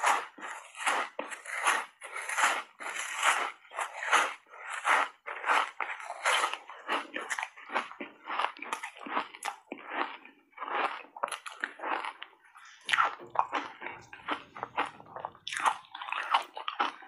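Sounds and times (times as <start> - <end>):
crunchy ice being chewed: 0.0 - 17.0.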